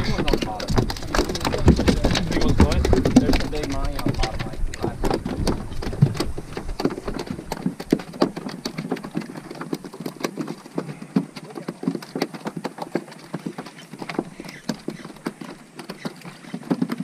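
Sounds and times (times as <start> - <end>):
fish flopping on deck: 0.0 - 17.0.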